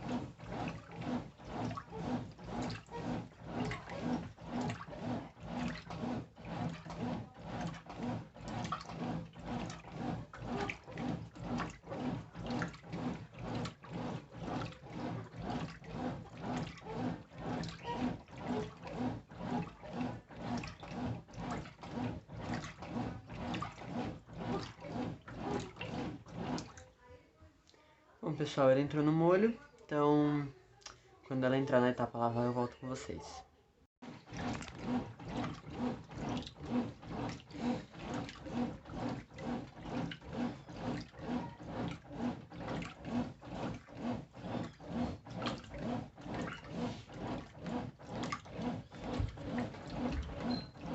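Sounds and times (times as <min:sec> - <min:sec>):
low motor hum: 0:00.0 - 0:27.1, 0:34.0 - 0:50.9
washing machine swishing clothes: 0:00.0 - 0:27.5, 0:28.3 - 0:30.6, 0:31.3 - 0:50.9.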